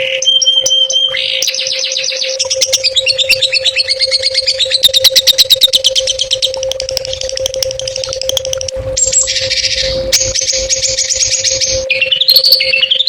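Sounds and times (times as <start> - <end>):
bird singing: 0.0 - 13.0
steady hum: 0.0 - 13.0.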